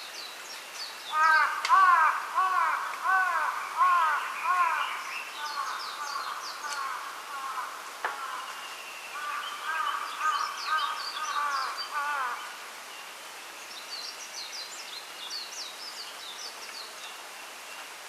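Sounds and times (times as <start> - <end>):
bird warbling song: 0.0 - 7.6, 8.2 - 17.2
steady hiss: 0.0 - 18.0.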